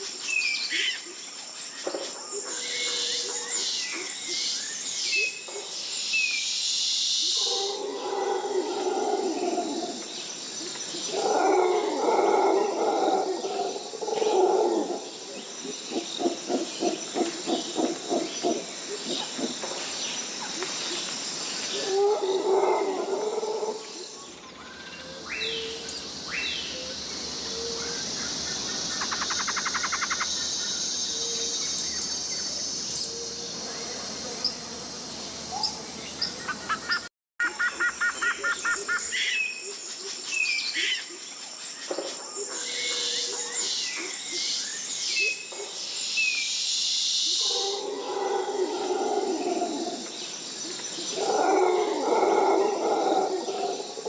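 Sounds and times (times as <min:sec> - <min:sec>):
high insect chorus: 0:00.0 - 0:54.0
birds chirping and trilling: 0:00.3 - 0:54.0.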